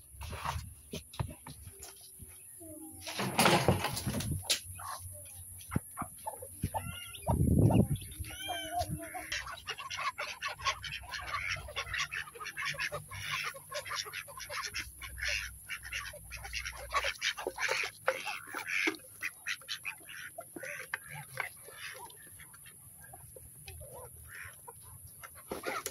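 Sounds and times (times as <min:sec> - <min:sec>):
ducks quacking: 0:04.5 - 0:25.9.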